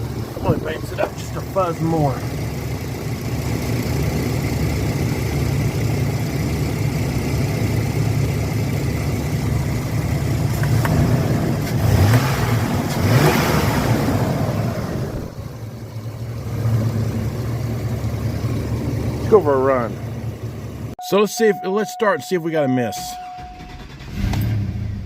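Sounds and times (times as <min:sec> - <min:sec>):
car engine idling and revving: 0:00.0 - 0:21.0, 0:23.2 - 0:25.0.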